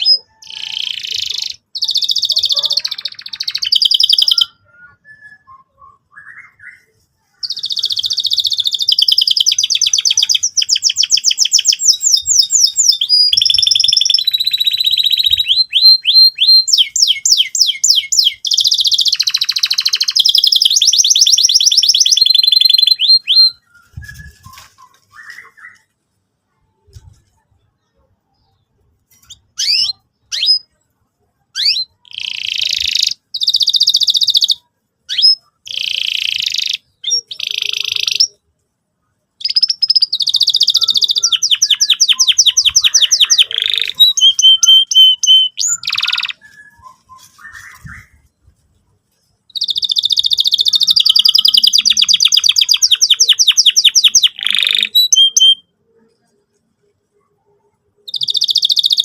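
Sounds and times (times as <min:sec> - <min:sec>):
canary singing trills: 0:00.0 - 0:25.9, 0:26.9 - 0:30.8, 0:31.4 - 0:38.5, 0:39.4 - 0:48.6, 0:49.3 - 0:55.8, 0:57.1 - 0:59.0.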